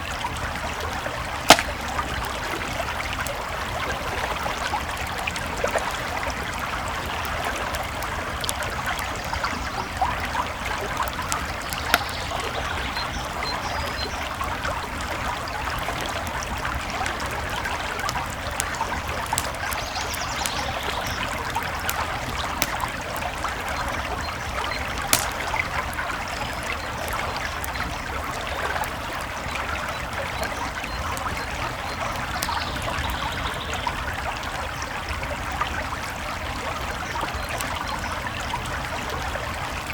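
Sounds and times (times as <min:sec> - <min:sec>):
creek flowing and trickling: 0:00.0 - 0:39.9
campfire crackling and popping: 0:00.2 - 0:34.0.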